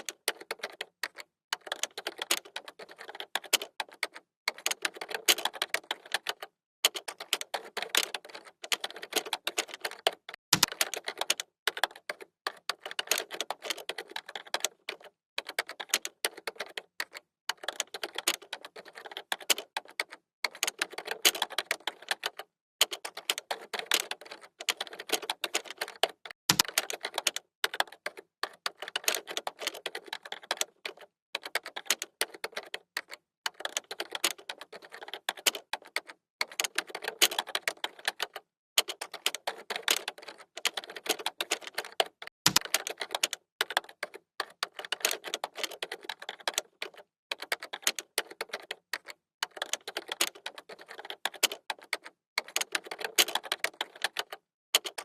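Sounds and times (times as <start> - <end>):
computer keyboard typing: 0.0 - 55.0.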